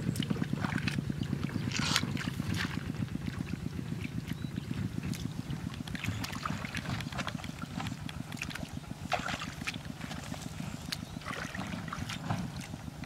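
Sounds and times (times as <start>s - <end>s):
muddy water splashing: 0.0s - 13.0s
steady low rumble: 0.0s - 13.0s.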